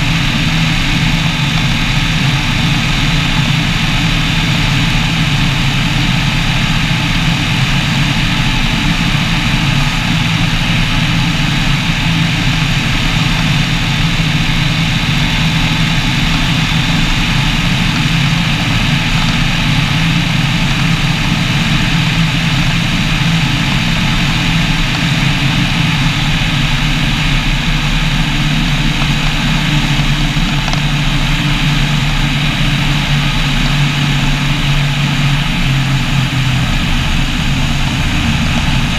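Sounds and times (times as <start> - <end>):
light aircraft engine and propeller: 0.0 - 38.9
rush of air: 0.0 - 38.9.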